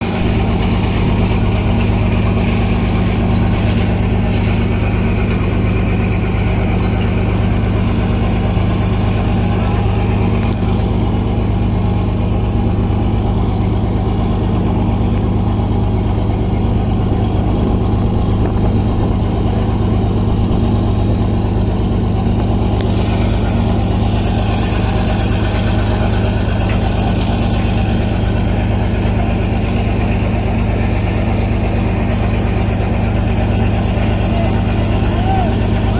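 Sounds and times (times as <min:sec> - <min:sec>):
engine droning: 0:00.0 - 0:35.9.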